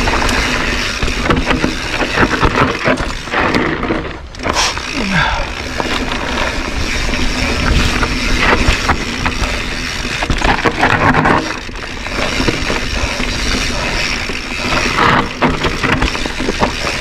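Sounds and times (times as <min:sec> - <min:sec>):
bike rattling and knocking: 0:00.0 - 0:17.0
bike tyres crunching over dirt: 0:00.0 - 0:17.0.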